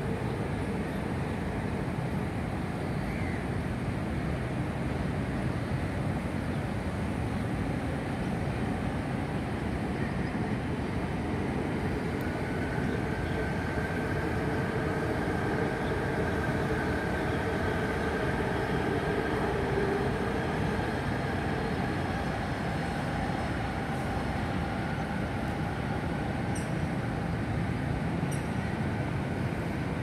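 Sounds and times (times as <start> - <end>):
city traffic hum: 0.0 - 30.0
faint train whine: 0.0 - 30.0.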